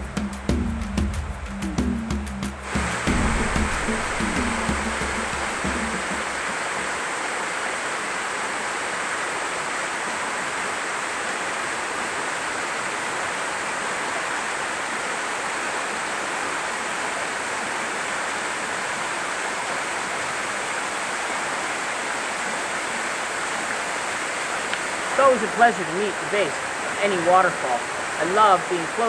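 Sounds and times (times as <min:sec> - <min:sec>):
small waterfall pouring: 0:02.6 - 0:29.0.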